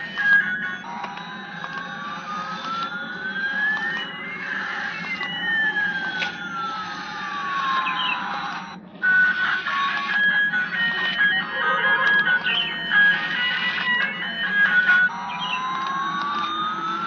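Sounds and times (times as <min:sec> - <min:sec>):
electronic siren-like tones: 0:00.0 - 0:17.0
steady low hum: 0:00.0 - 0:17.0.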